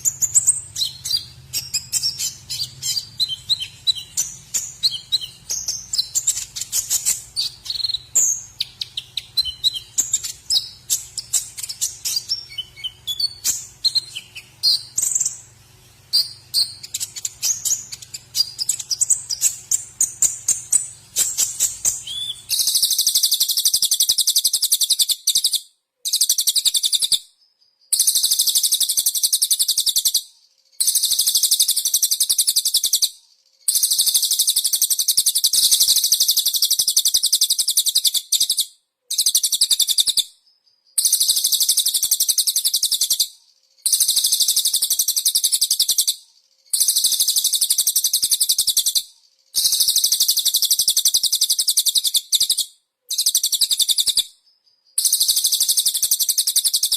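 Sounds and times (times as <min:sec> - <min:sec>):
songbird high-pitched trills: 0:00.0 - 0:56.9.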